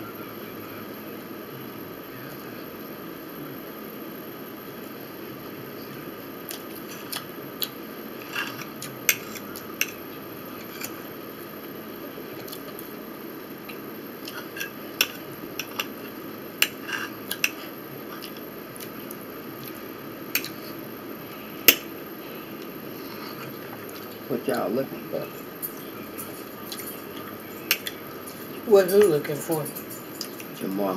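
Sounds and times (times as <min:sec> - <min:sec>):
low room hum: 0:00.0 - 0:30.9.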